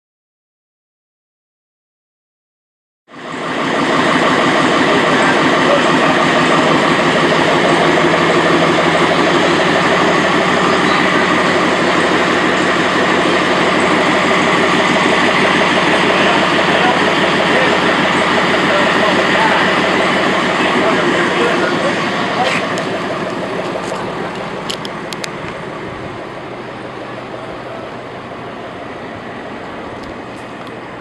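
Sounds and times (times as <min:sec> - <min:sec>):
engine running with fast pulse: 0:03.1 - 0:31.0.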